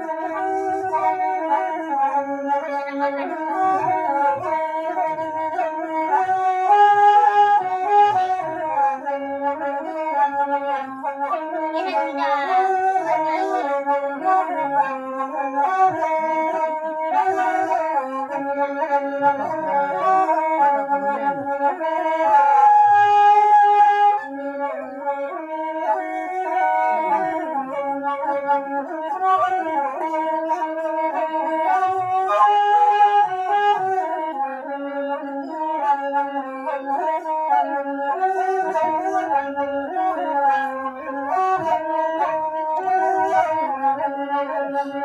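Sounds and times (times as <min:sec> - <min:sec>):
bamboo flute melody: 0:00.0 - 0:45.0.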